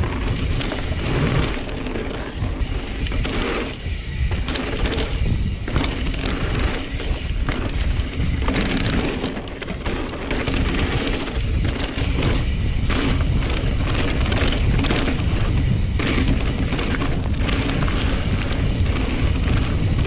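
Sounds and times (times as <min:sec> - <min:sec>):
bicycle drivetrain rattle: 0:00.0 - 0:20.0
bicycle tyre noise on trail: 0:00.0 - 0:20.0.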